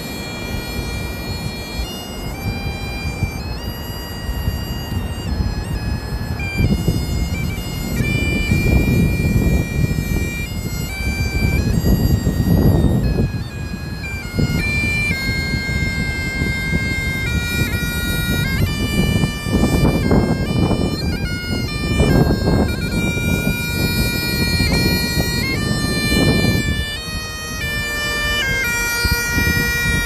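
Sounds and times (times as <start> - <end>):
bagpipe playing a tune: 0.0 - 30.0.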